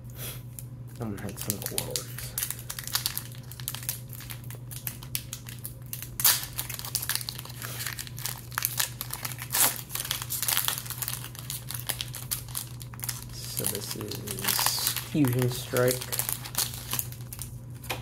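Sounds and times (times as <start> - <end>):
foil wrapper crinkling: 0.6 - 18.0
foil wrapper ripping: 0.9 - 17.9.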